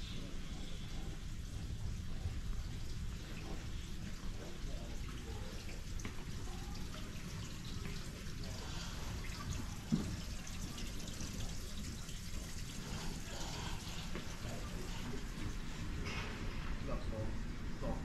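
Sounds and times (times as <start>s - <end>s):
low indoor hum: 0.0s - 18.0s.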